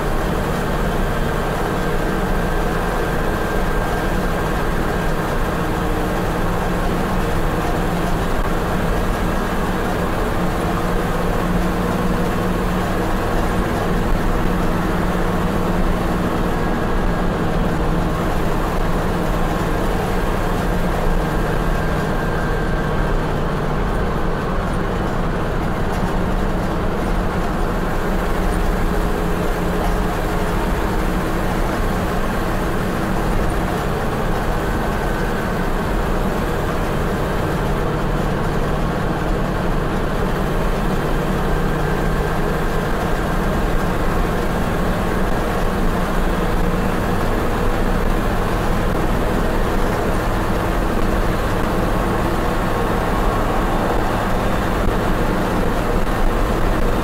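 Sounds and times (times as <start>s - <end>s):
road noise: 0.0s - 57.0s
truck engine running: 0.0s - 57.0s.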